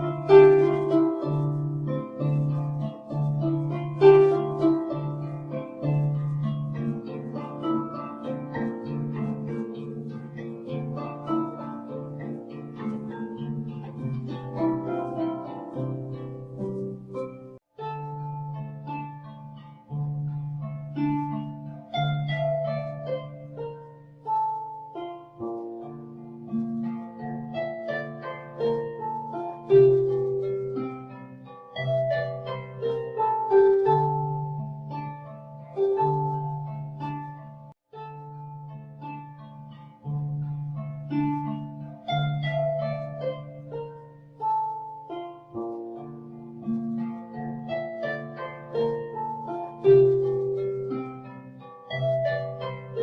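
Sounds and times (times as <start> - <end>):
harp music: 0.0 - 53.0.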